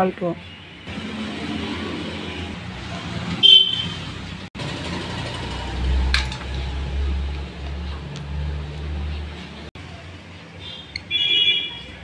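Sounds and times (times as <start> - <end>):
vehicle engine rumble: 0.9 - 11.0.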